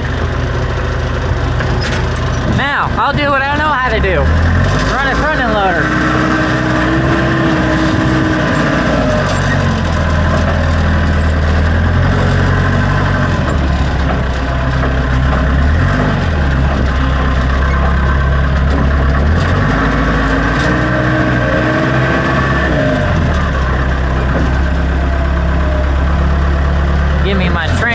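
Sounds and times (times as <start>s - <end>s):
backhoe diesel engine running: 0.0s - 27.9s.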